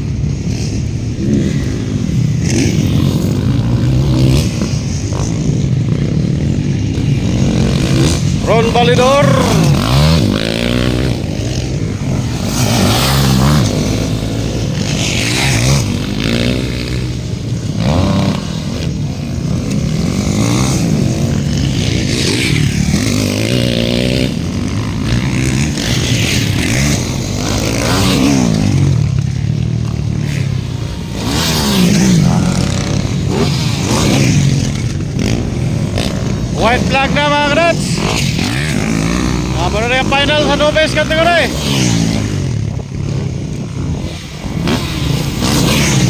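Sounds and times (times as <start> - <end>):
dirt bike engines revving: 0.0 - 46.0.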